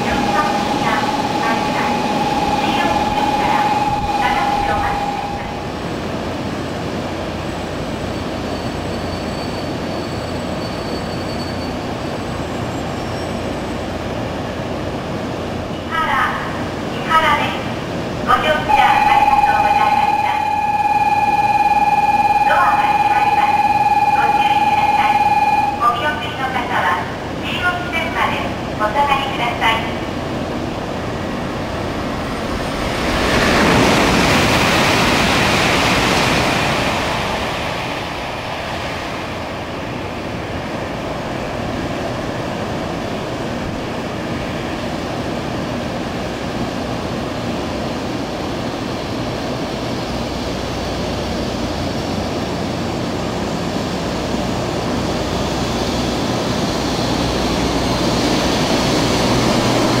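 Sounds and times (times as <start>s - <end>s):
wide rush of noise: 0.0s - 8.9s, 17.7s - 60.0s
train rushing rumble: 0.0s - 60.0s.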